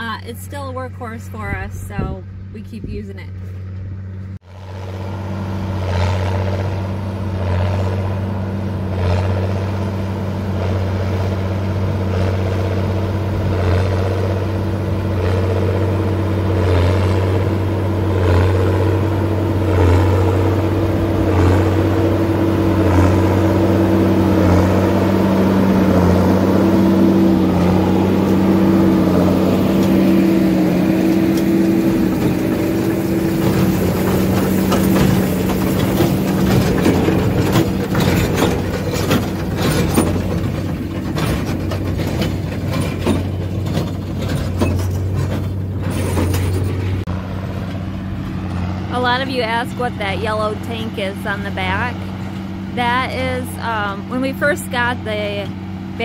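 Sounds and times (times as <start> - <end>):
tractor running under load: 0.0 - 56.0.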